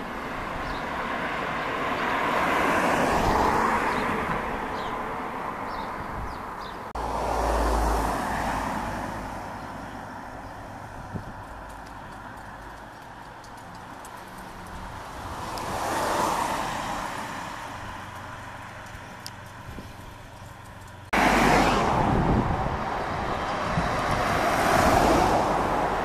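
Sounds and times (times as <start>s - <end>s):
car passing: 0.0s - 26.0s.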